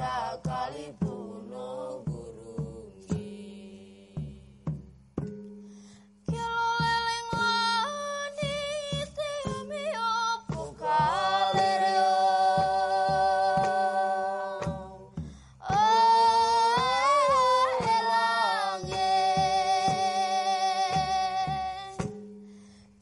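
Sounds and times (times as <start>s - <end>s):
low soft thumps: 0.0s - 23.0s.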